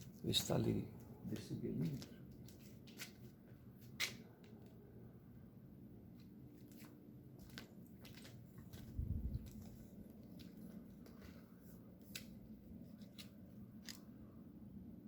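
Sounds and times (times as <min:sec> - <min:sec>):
faint factory machinery hum: 0:00.0 - 0:15.0.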